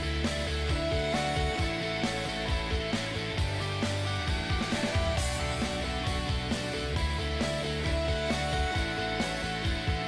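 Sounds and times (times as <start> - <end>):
regular drum hits: 0.2 - 9.0.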